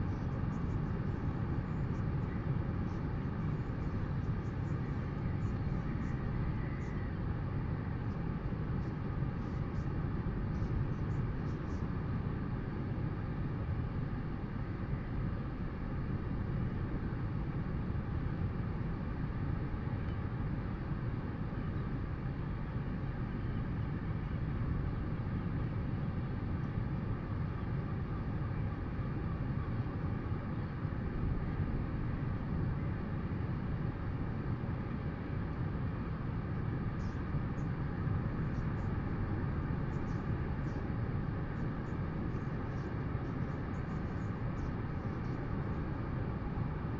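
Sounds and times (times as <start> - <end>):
faint electrical hum: 0.0 - 46.9.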